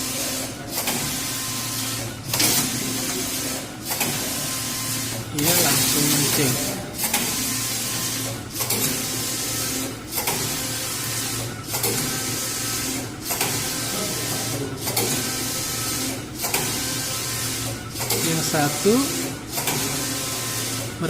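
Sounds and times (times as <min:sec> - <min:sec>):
knitting machine carriage whirring: 0:00.0 - 0:21.0.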